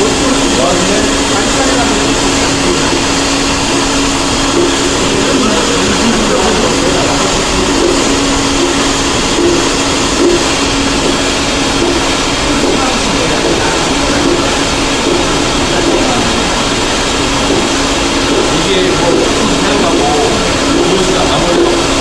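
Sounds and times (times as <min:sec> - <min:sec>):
cleaning machine running: 0:00.0 - 0:22.0.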